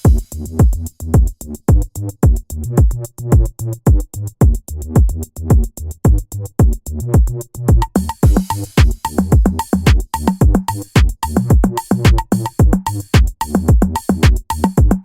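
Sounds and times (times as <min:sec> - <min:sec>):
electronic music with drum-machine beat: 0:00.0 - 0:15.0.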